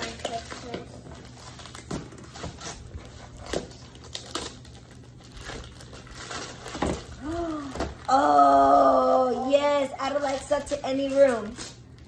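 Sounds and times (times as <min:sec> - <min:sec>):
wrapping paper tearing and crumpling: 0:00.0 - 0:09.3, 0:10.0 - 0:12.0.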